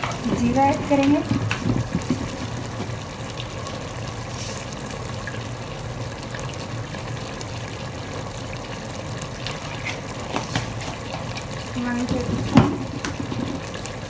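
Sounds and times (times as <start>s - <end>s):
sauce bubbling and sizzling in pot: 0.0s - 14.0s.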